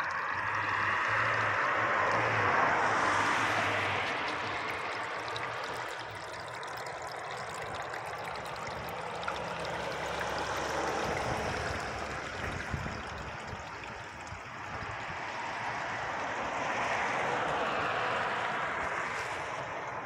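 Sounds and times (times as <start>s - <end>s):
water rushing hiss: 0.0s - 20.0s.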